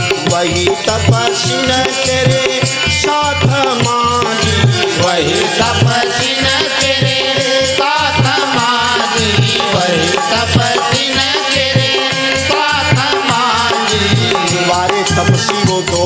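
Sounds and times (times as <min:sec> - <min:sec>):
man singing: 0:00.0 - 0:16.0
steady drum beat: 0:00.0 - 0:16.0.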